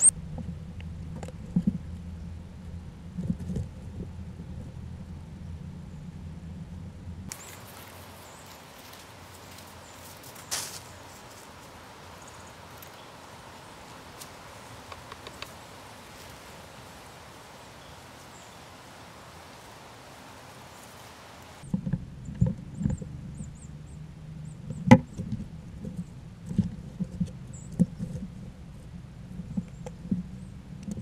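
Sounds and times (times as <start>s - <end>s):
steady outdoor hiss: 0.0s - 31.0s.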